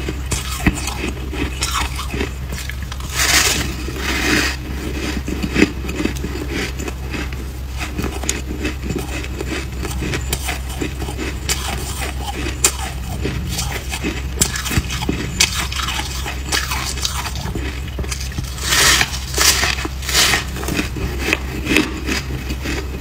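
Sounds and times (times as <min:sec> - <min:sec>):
frost being crunched and chewed: 0:00.0 - 0:23.0
low steady hum: 0:00.0 - 0:23.0.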